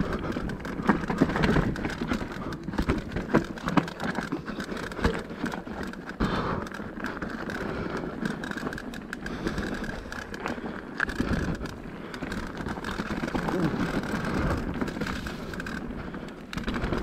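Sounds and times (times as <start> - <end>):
bike rattling and knocking: 0.0 - 17.0
bike tyres grinding over stones: 0.0 - 17.0.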